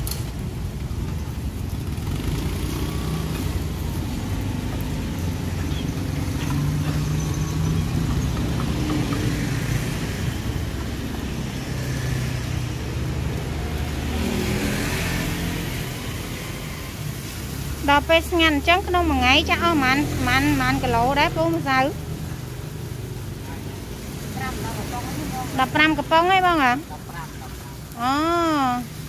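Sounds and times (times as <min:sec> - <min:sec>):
traffic passing on street: 0:00.0 - 0:29.0.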